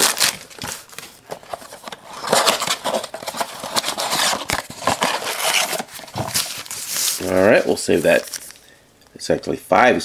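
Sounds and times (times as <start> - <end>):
cardboard box being opened: 0.1 - 8.5.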